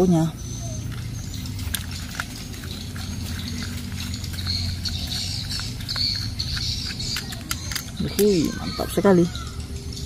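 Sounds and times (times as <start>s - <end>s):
high wavering chirping: 0.0s - 10.0s.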